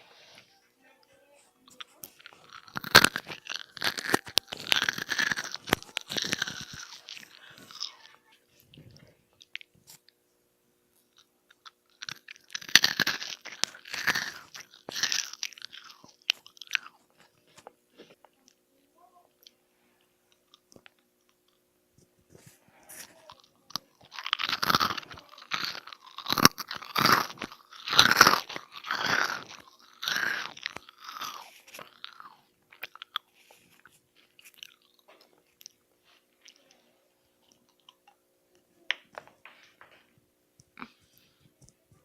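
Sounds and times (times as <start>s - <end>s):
crunchy food being chewed: 1.6s - 10.2s, 10.9s - 18.6s, 20.3s - 38.2s, 40.6s - 42.0s.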